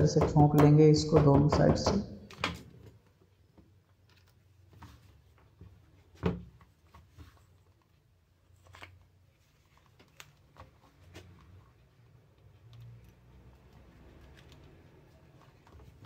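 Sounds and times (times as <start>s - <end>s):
clicks and rustles of parts: 2.3s - 5.9s, 6.5s - 16.0s.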